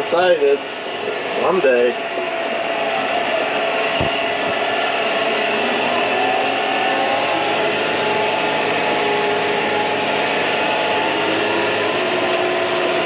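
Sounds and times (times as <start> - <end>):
combine harvester mechanical drone: 0.0 - 13.0.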